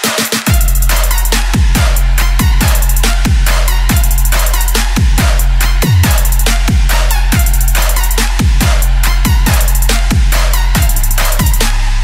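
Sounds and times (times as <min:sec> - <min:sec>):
electronic music with bass kicks: 0:00.0 - 0:12.0.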